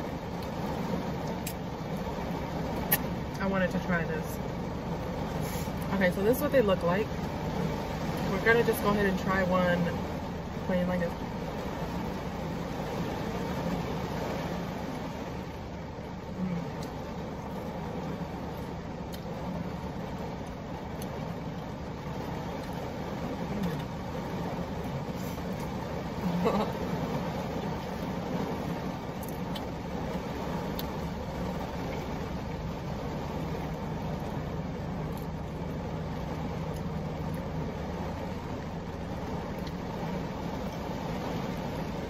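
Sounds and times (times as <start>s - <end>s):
heavy rain on car roof: 0.0s - 42.0s.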